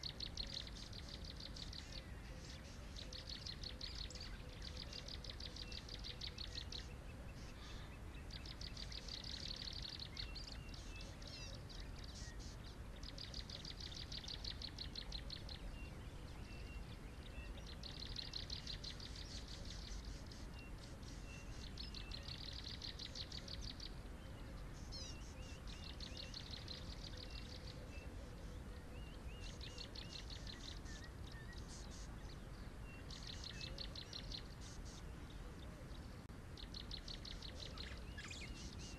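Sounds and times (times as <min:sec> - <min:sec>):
low steady background hiss: 0:00.0 - 0:38.9.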